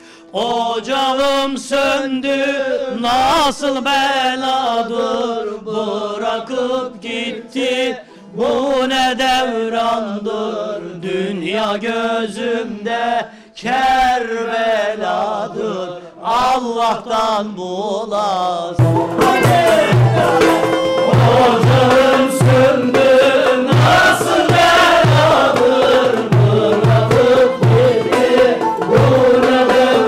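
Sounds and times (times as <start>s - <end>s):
man singing folk vocal line: 0.0s - 30.0s.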